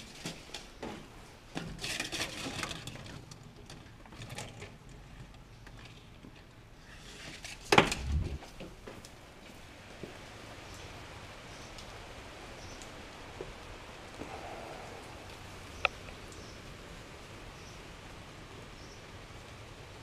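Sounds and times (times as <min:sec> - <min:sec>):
faint rain: 0:00.0 - 0:20.0.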